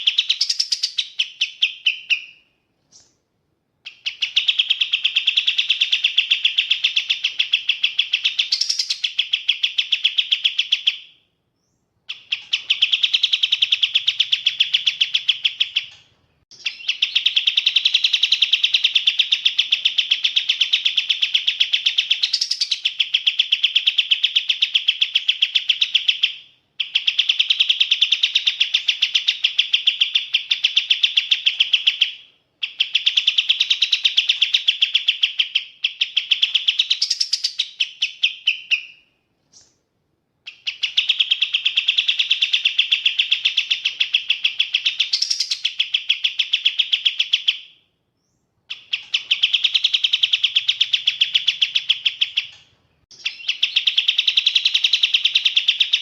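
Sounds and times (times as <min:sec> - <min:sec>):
songbird rapid high chirping: 0:00.0 - 0:03.2, 0:03.8 - 0:39.8, 0:40.5 - 0:56.0.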